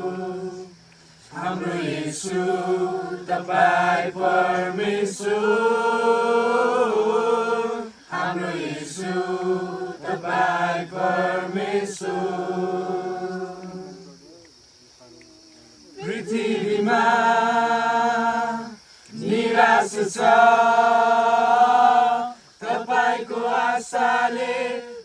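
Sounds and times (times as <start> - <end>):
voices singing long notes: 0.0 - 14.4, 15.9 - 25.0.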